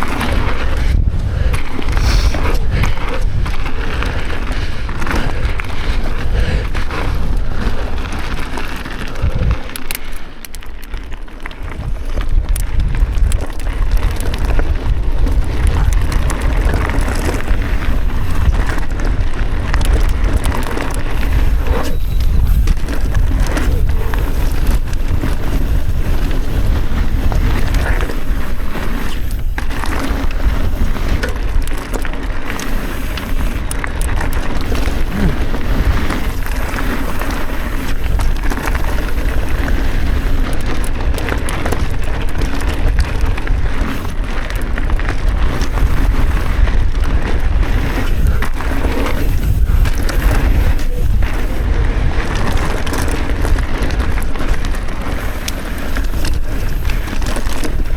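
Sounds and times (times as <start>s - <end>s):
bike rattling: 0.0s - 57.9s
tyres rolling on dirt: 0.0s - 57.9s
wind rumbling on microphone: 0.0s - 57.9s.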